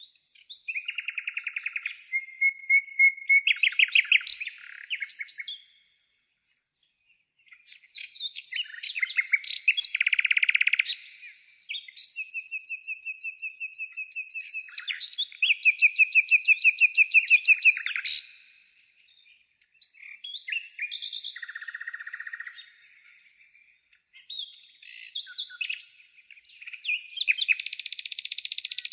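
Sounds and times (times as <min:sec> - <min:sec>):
birds singing with trills: 0:00.0 - 0:28.9.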